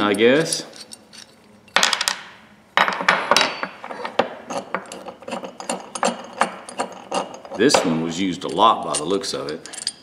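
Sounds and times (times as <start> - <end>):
metal wrench clicking and rattling: 0.0 - 1.9, 3.3 - 10.0.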